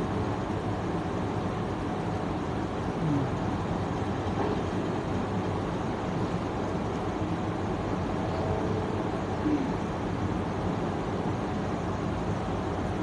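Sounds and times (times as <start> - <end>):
fans and air conditioners humming: 0.0 - 13.0.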